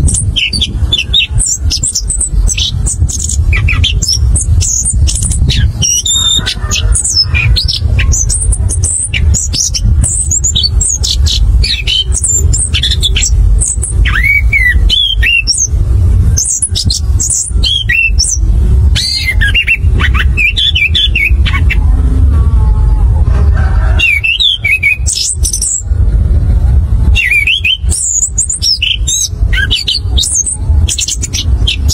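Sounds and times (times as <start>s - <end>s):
steady low rumble: 0.0s - 31.9s
thrush singing: 0.0s - 31.9s.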